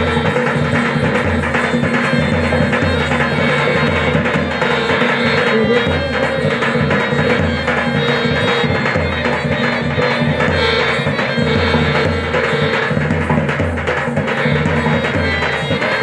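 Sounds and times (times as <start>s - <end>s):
hand drums: 0.0s - 16.0s
reedy melody line: 0.0s - 16.0s.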